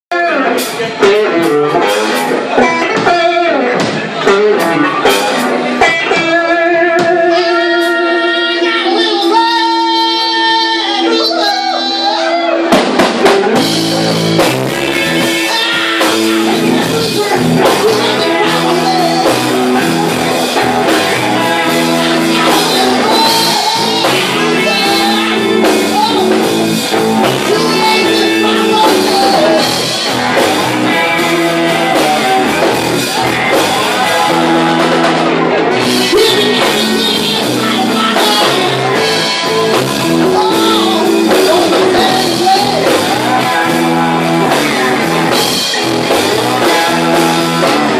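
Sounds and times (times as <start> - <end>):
bass and drums: 0.1 - 47.9
electric guitars playing blues: 0.1 - 47.9
man singing: 0.1 - 47.9.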